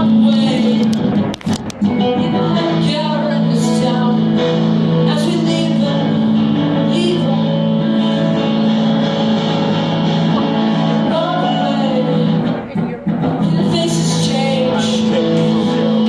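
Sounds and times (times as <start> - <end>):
guitar chords: 0.0 - 16.0
person singing long notes: 1.9 - 16.0.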